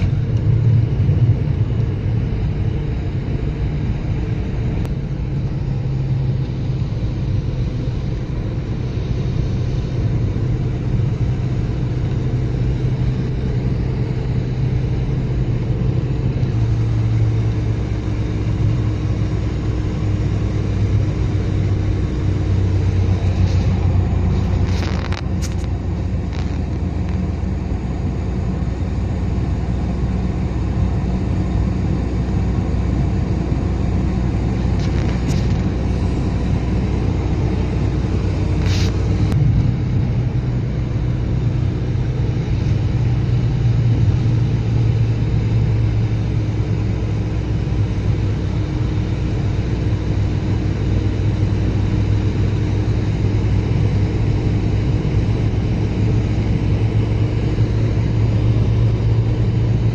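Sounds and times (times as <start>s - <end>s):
low droning hum: 0.0s - 59.9s
low rumble: 0.0s - 59.9s.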